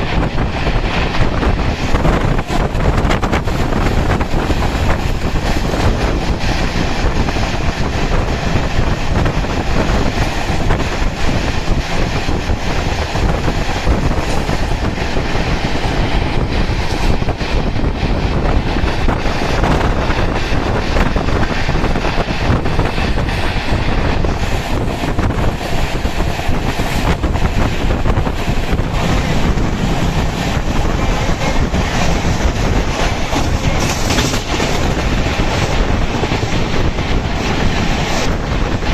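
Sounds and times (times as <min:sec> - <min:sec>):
train rumbling at speed: 0:00.0 - 0:38.9
wind buffeting microphone: 0:00.0 - 0:38.9
wheels clattering over rail joints: 0:01.0 - 0:38.9.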